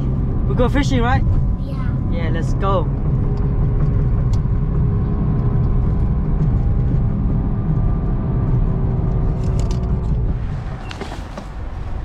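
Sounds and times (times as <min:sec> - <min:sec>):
car engine hum: 0:00.0 - 0:12.0
road noise rumble: 0:00.0 - 0:12.0.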